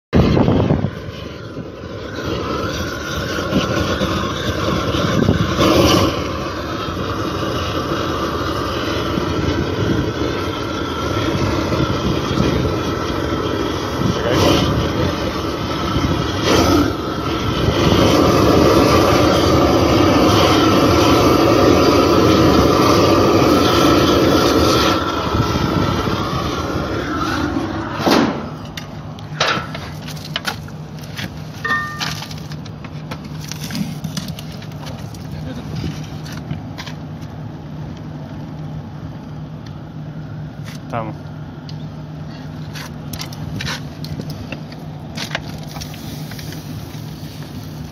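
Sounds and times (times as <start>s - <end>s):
gas torch rushing: 0.2s - 37.7s, 41.7s - 47.9s.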